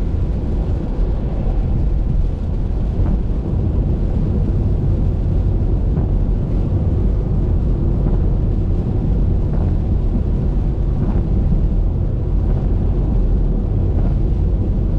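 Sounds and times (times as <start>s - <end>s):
tyre and wind noise: 0.0s - 14.9s.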